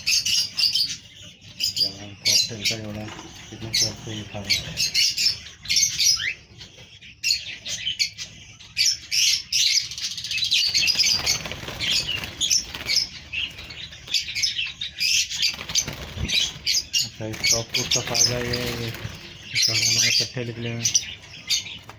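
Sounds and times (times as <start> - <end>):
parrots chirping: 0.0 - 21.9.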